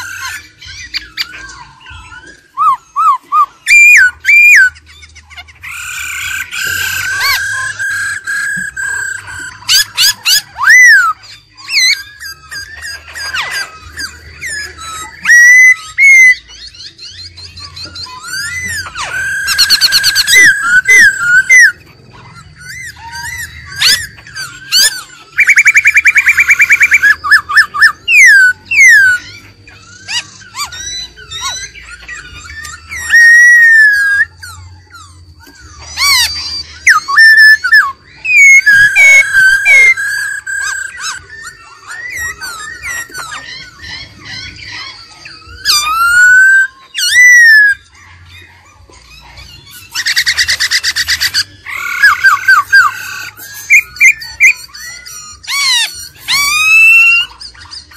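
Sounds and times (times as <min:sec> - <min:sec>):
bird singing whistled phrases: 0:00.0 - 0:57.9.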